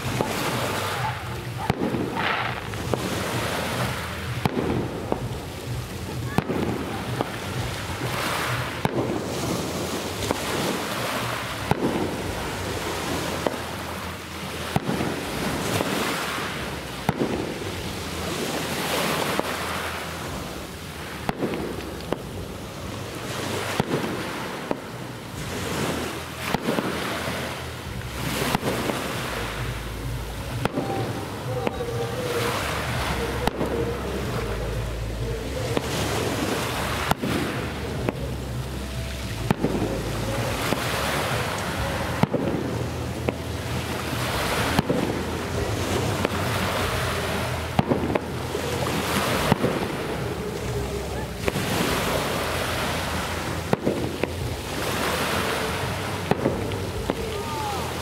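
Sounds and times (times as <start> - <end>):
distant fireworks bangs: 0.0 - 58.0
waves washing on shore: 0.0 - 58.0
wind on microphone: 0.0 - 58.0.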